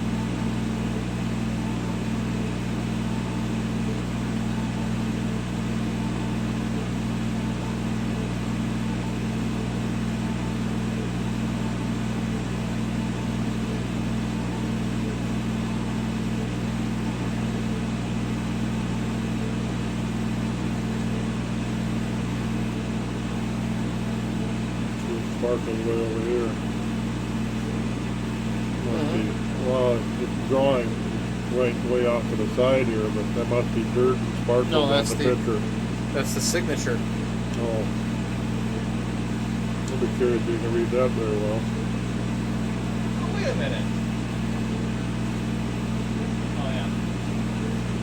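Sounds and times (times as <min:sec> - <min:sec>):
engraver machine humming: 0:00.0 - 0:48.0.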